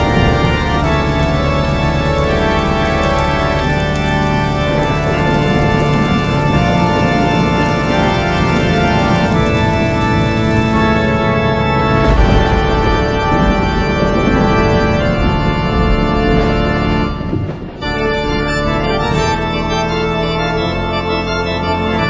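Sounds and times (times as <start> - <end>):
organ playing held chords: 0.0 - 22.0.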